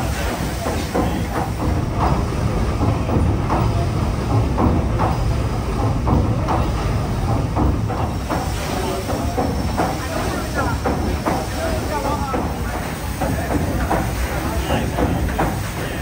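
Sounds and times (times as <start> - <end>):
steam engine and paddle wheels: 0.0 - 16.0.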